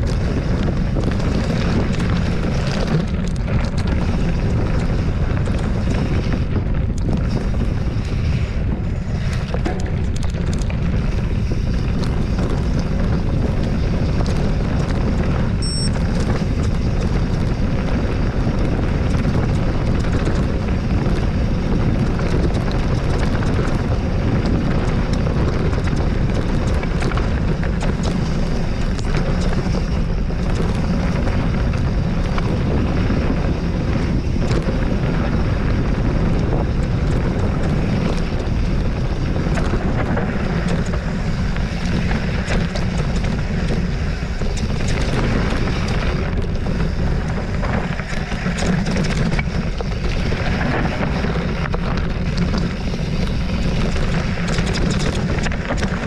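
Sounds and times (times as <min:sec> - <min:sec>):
wind buffeting the microphone: 0:00.0 - 0:56.0.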